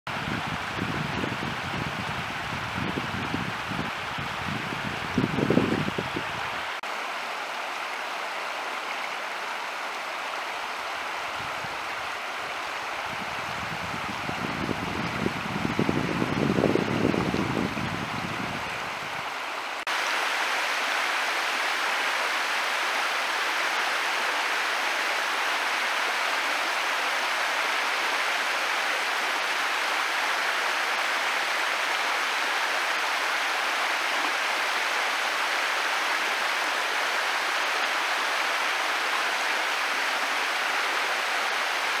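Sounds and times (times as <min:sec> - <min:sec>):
stream running over stones: 0:00.1 - 0:42.0.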